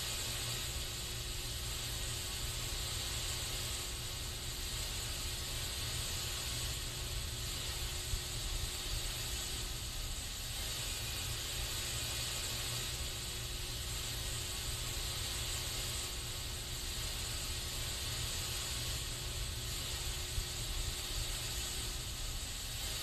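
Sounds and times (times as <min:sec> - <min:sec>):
aerosol spray can hissing: 0:00.0 - 0:23.0.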